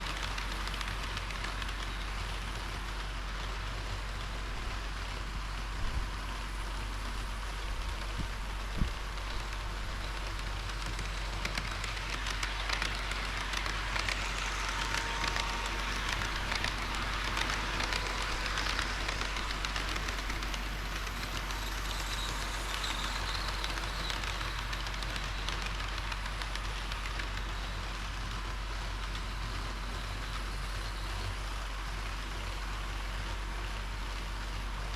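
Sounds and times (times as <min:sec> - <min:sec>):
model train wheels rolling on rail: 0:00.0 - 0:34.9.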